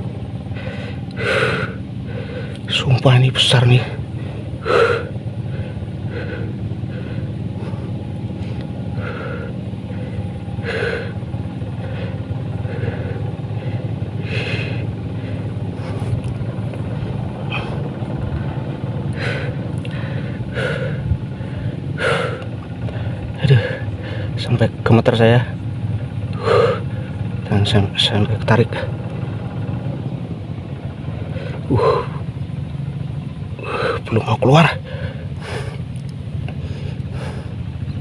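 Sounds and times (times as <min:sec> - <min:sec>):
man breathing heavily: 0:00.0 - 0:24.8, 0:25.6 - 0:27.5, 0:28.7 - 0:38.0
low engine rumble: 0:00.0 - 0:38.0.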